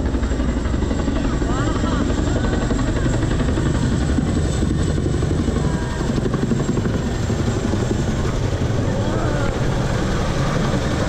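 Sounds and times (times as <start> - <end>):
helicopter rotors beating overhead: 0.0 - 11.0.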